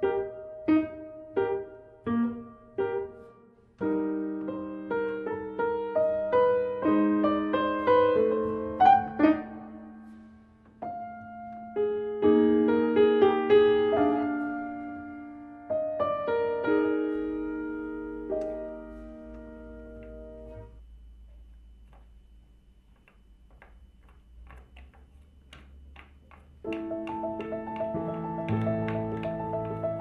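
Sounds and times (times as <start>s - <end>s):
slow solo piano melody: 0.0s - 20.7s, 26.3s - 30.0s.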